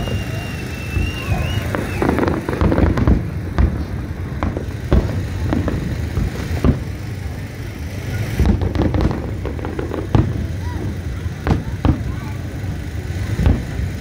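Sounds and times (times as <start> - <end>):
fireworks bursting bangs: 0.0 - 14.0
steady low rumble: 0.0 - 14.0.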